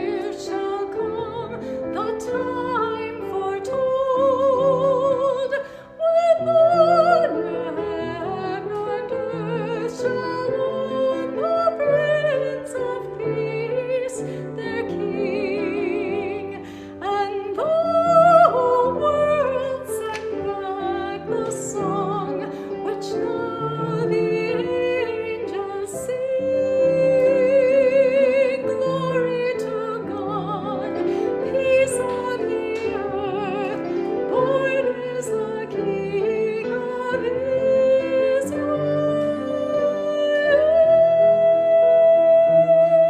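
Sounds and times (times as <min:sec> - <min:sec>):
classical solo singing: 0:00.0 - 0:43.0
piano accompaniment: 0:00.0 - 0:43.0.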